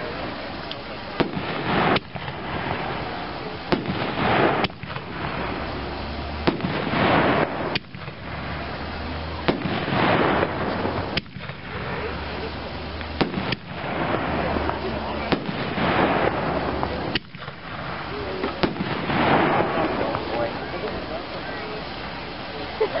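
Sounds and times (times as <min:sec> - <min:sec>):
firework shells bursting: 0:00.0 - 0:23.0
mortar tube firing: 0:00.6 - 0:21.1.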